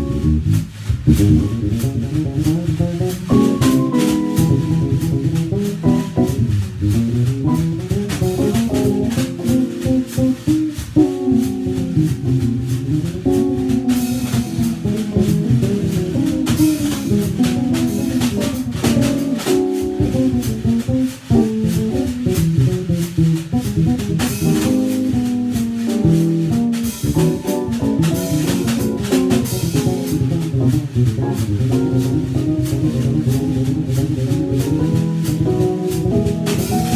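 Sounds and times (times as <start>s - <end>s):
jazz trio playing: 0.0s - 36.9s.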